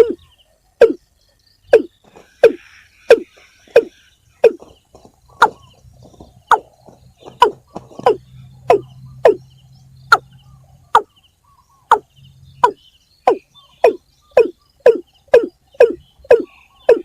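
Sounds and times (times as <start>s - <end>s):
bird giving sharp calls: 0.0s - 1.0s, 1.7s - 9.5s, 10.1s - 17.0s.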